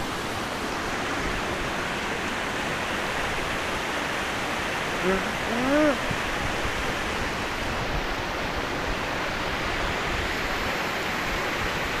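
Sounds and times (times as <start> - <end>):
water cascading over rocks: 0.0 - 12.0.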